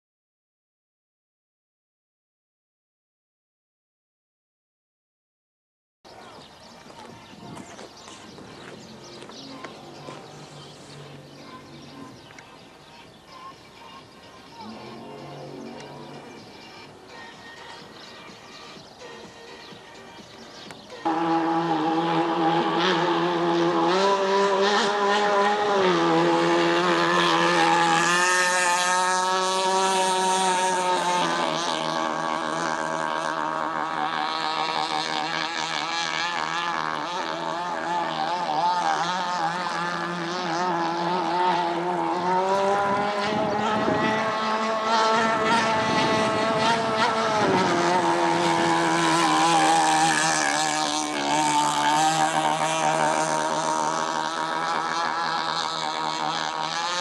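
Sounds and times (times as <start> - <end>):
small two-stroke engine revving: 7.5 - 19.2, 20.2 - 57.0.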